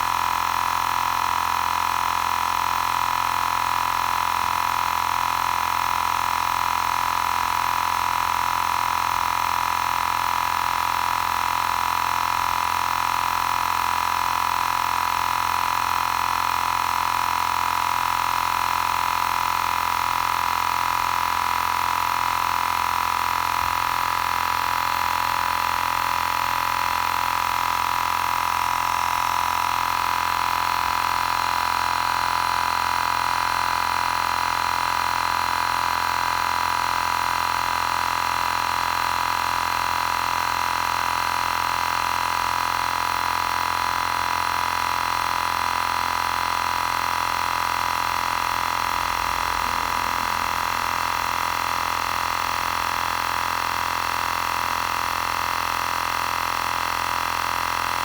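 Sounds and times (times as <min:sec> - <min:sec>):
air compressor whining: 0:00.0 - 0:58.0.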